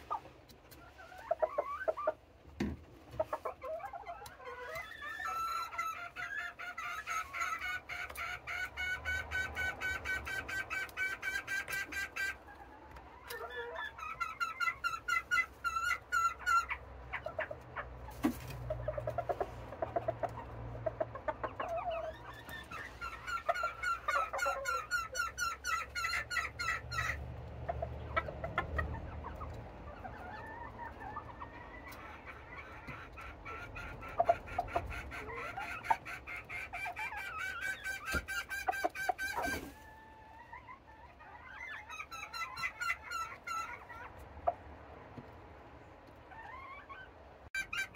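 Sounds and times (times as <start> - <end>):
chickens clucking and calling: 0.0 - 47.9.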